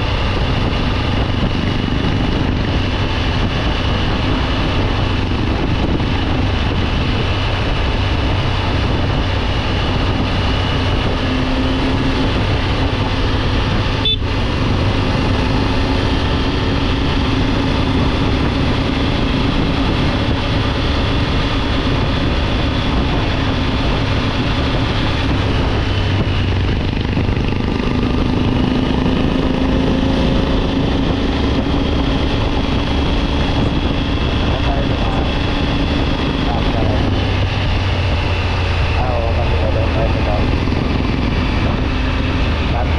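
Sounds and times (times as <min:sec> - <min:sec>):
motorcycle engine running: 0:00.0 - 0:42.9
wind rush: 0:00.0 - 0:42.9.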